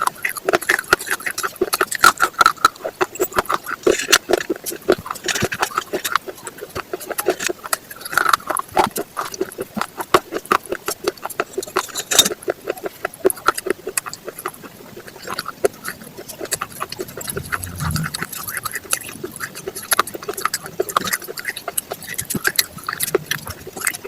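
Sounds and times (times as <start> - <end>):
chewing raw vegetables crunching: 0.0 - 24.0.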